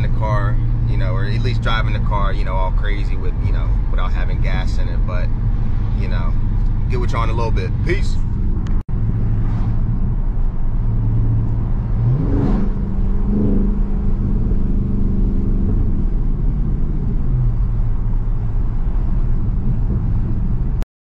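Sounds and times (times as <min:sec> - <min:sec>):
car engine droning: 0:00.0 - 0:20.8.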